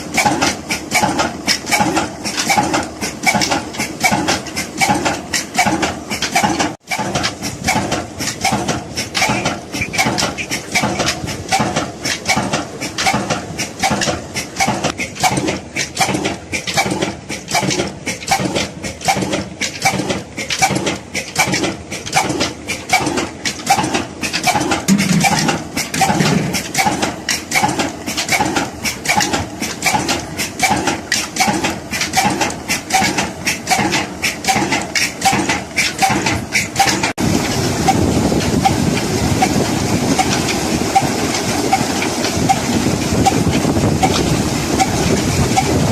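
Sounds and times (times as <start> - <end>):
old diesel engine beating: 0.0 - 45.9.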